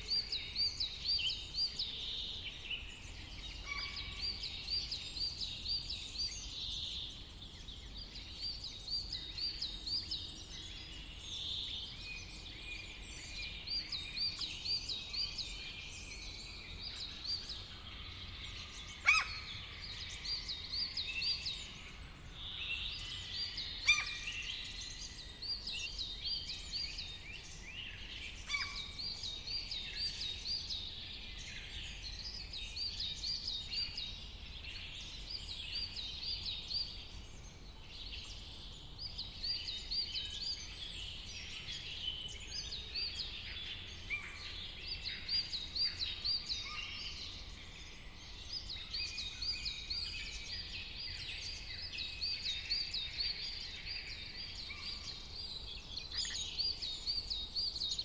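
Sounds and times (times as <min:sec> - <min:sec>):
forest birds singing: 0:00.0 - 0:58.0.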